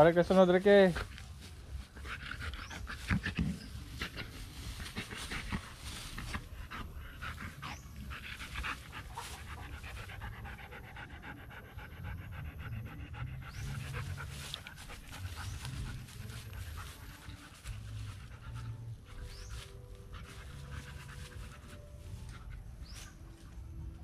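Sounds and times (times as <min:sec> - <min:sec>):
dog panting: 0:00.2 - 0:23.2.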